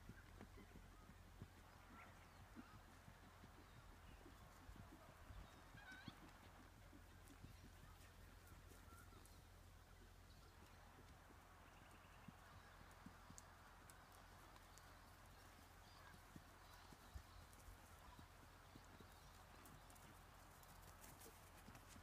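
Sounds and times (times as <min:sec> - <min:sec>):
horse hoofbeats on grass: 0:00.0 - 0:22.0.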